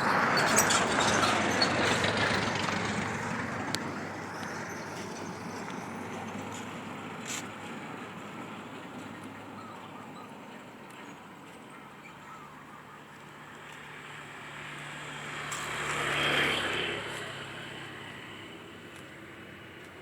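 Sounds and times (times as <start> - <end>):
road vehicle passing by: 0.0 - 20.0.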